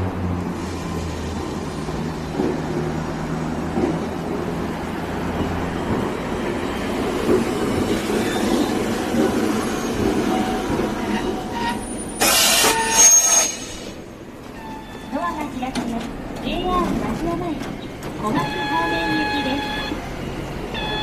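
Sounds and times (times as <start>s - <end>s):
streetcar wheels rumbling on rails: 0.0s - 21.0s.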